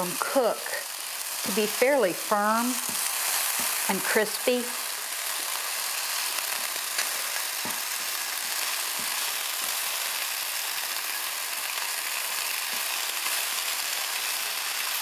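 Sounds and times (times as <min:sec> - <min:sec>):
bacon sizzling in a pan: 0:00.0 - 0:15.0.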